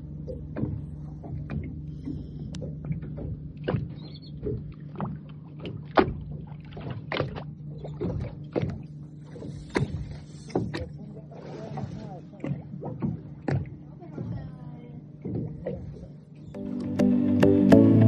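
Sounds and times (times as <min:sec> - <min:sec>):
steady low hum: 0:00.0 - 0:18.0
water knocking and splashing on hull: 0:00.0 - 0:18.0.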